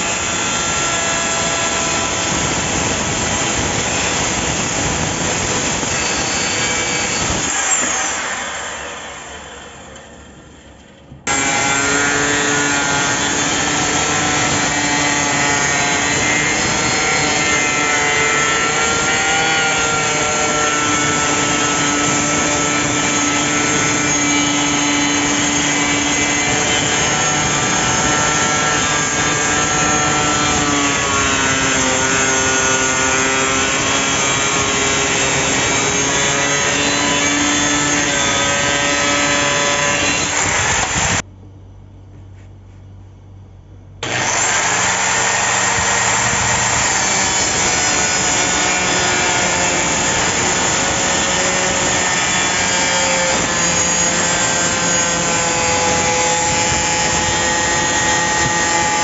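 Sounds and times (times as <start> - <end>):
circular saw cutting wood: 0.0 - 10.2, 11.3 - 41.2, 44.0 - 59.0.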